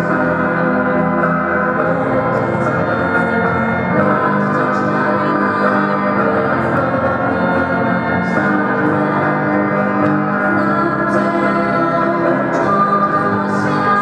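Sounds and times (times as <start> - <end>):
live band with electric guitars: 0.0 - 14.0.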